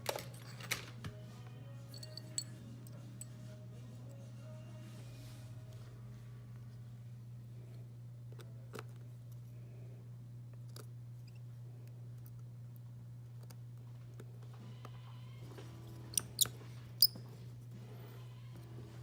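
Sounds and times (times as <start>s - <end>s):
steady low hum: 1.1s - 19.0s.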